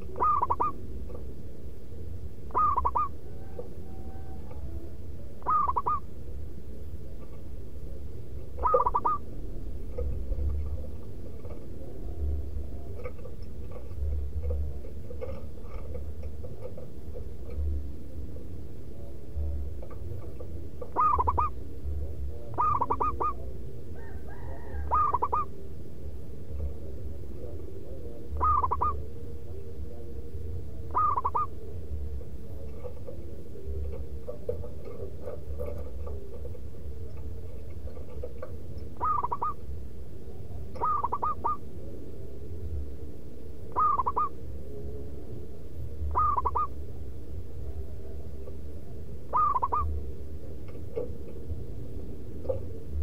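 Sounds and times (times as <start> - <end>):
dove cooing: 0.0 - 53.0.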